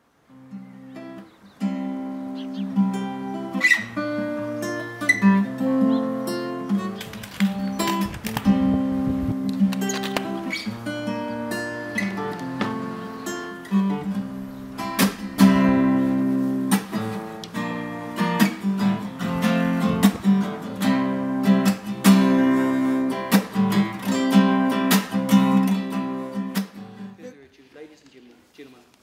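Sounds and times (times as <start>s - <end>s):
acoustic guitar strumming: 0.3s - 27.3s.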